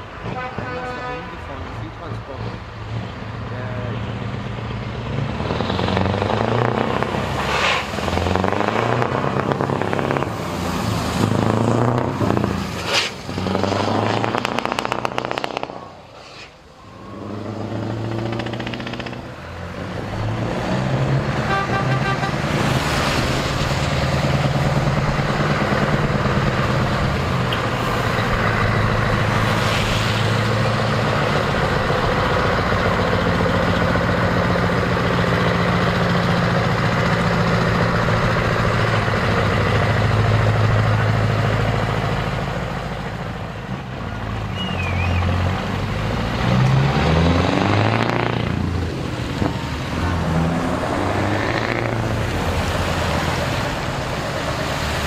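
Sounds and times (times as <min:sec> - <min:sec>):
truck diesel engines revving: 0:00.0 - 0:55.0.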